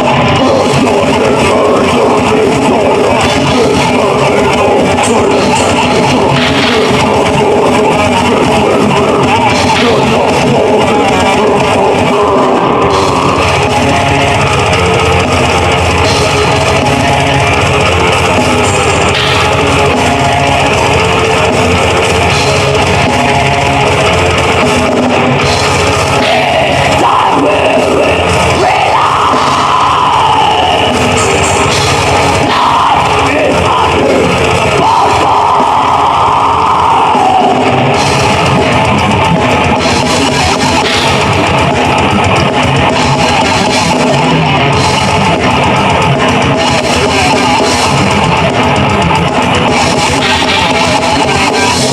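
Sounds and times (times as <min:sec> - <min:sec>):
distorted electric guitars: 0:00.0 - 0:51.9
drum kit: 0:00.0 - 0:51.9.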